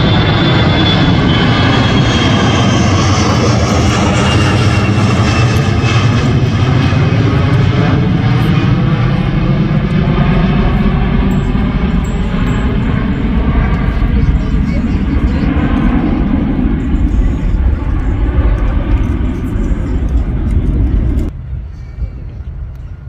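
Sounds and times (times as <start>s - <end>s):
jet airliner passing overhead: 0.0s - 23.0s.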